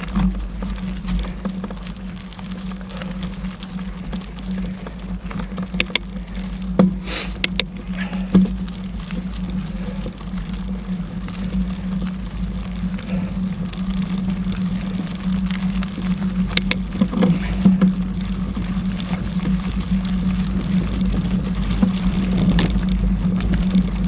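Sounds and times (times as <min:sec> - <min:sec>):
bike tyres rumbling on dirt: 0:00.0 - 0:24.0
wind on microphone: 0:00.0 - 0:24.0.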